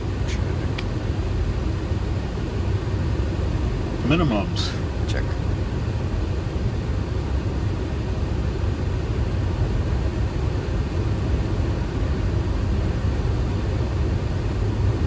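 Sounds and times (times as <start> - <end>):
airplane airflow and engine rumble: 0.0 - 15.0.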